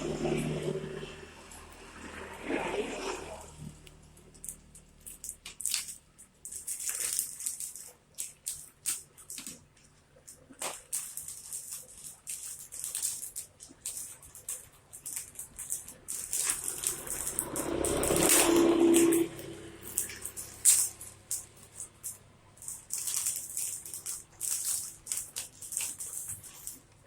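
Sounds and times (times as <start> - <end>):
plastic packaging crinkling: 4.2 - 27.0.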